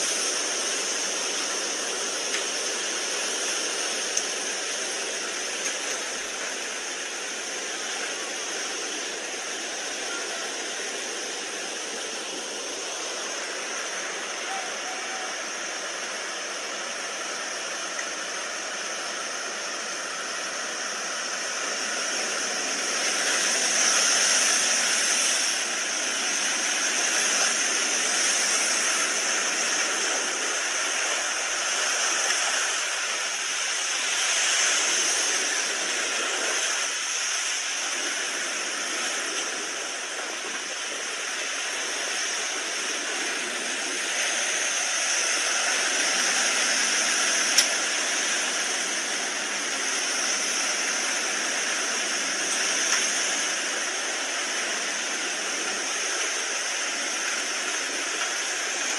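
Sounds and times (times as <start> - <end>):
rushing water roar: 0.0 - 58.9.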